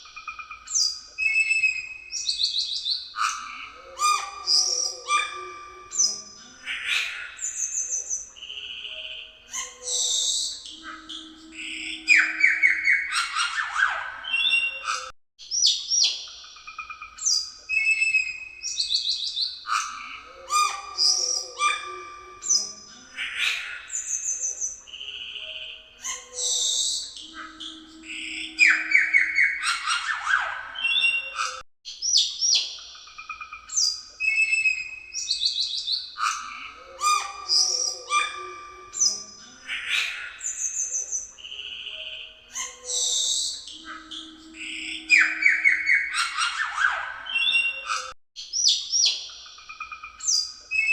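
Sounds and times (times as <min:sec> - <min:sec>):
bird singing whistled song: 0:00.0 - 0:49.3, 0:49.9 - 0:50.9.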